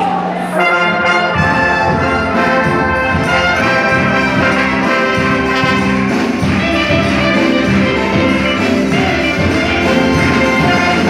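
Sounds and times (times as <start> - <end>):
orchestral brass chords: 0.4 - 11.0.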